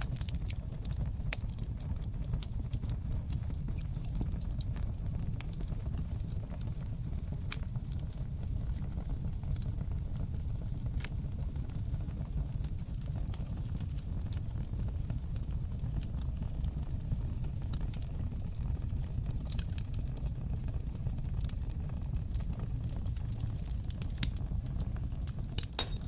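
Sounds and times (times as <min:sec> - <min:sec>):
burning wood crackling and popping: 0:00.0 - 0:26.0
low rumble of flames: 0:00.0 - 0:26.0.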